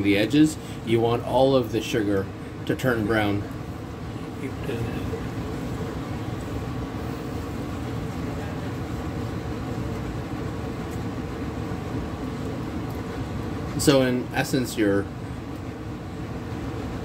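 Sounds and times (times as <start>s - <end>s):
low rushing hum: 0.0s - 17.0s.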